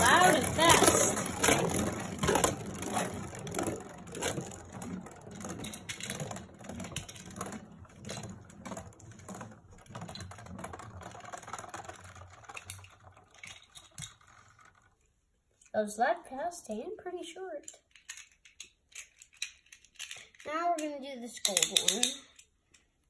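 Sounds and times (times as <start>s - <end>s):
spinning top whirring and rattling: 0.0s - 15.7s, 17.6s - 22.5s.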